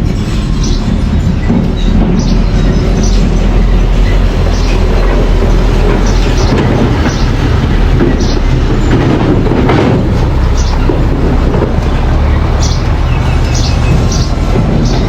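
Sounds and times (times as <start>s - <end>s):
bulldozer engine rumbling: 0.0s - 15.0s
tracks squeaking: 0.0s - 15.0s.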